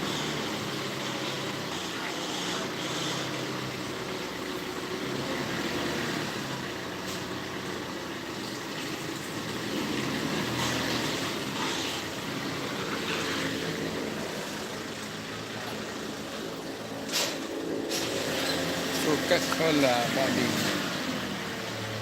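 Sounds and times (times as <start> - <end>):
forklift engine running: 0.0 - 22.0.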